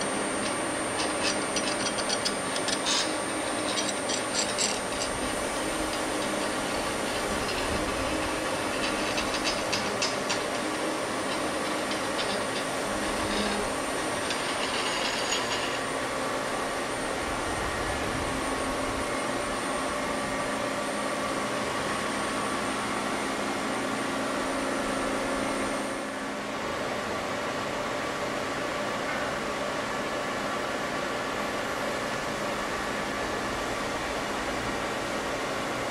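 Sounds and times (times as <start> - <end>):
machine humming over hiss: 0.0 - 35.9.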